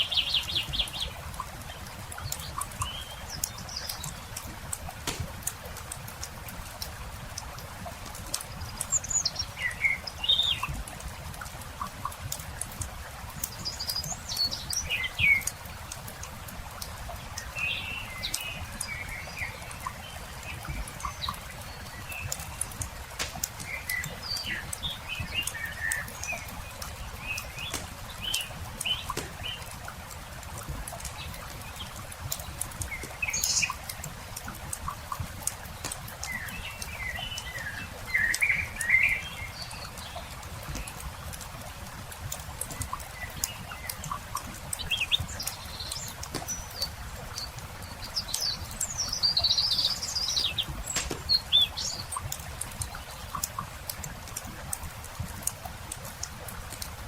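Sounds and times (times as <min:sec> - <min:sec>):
campfire crackling: 0:00.0 - 0:57.0
songbirds chirping: 0:00.0 - 0:57.0.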